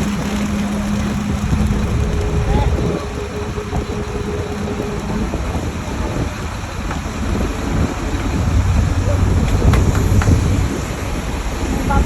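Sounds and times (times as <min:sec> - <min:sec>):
faint steady hum: 0:00.0 - 0:12.0
heavy engine rumbling: 0:00.0 - 0:12.0.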